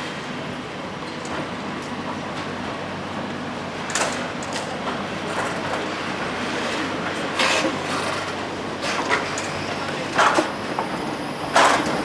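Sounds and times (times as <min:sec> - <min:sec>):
tram wheels rolling: 0:01.0 - 0:12.0.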